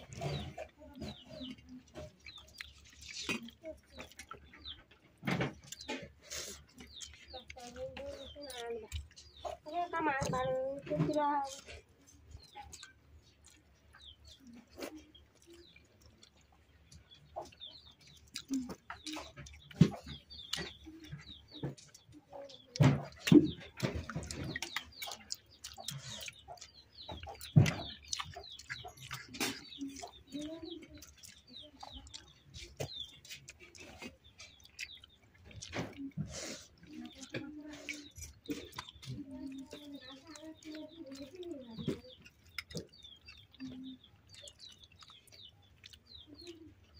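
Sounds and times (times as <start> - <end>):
chewing: 0.0 - 46.9
fingers working food in steel bowls: 0.0 - 46.9
hens clucking: 0.0 - 46.9
small birds chirping: 0.0 - 46.9.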